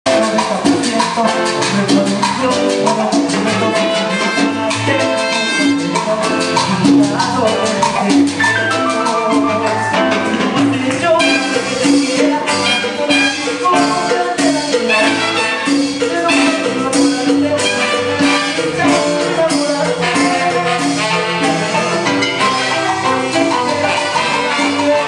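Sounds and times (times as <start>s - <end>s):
live band playing cumbia: 0.0s - 25.0s
trumpet: 0.1s - 25.0s.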